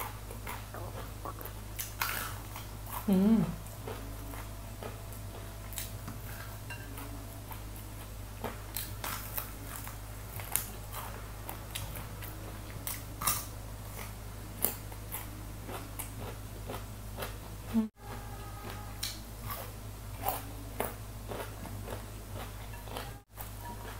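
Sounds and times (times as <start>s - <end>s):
chewing and crunching: 0.0s - 23.9s.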